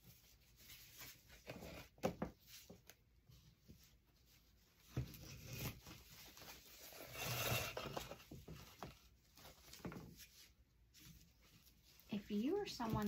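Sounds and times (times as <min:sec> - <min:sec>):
ribbon rustling and sliding: 0:00.0 - 0:13.0.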